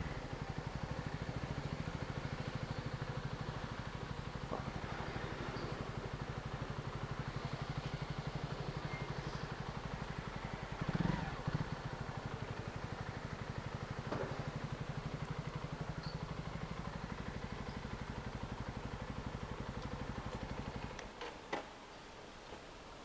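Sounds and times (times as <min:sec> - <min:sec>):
motorcycle engine idling: 0:00.0 - 0:21.2.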